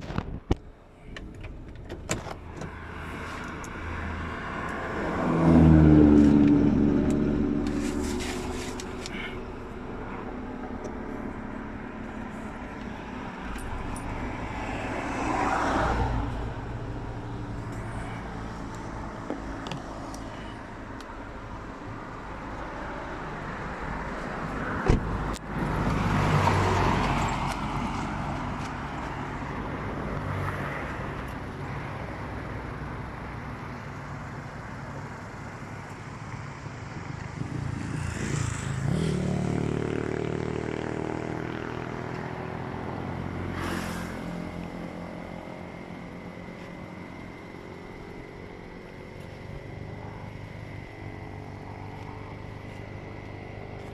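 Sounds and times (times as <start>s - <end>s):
motor vehicles passing: 2.4s - 53.9s.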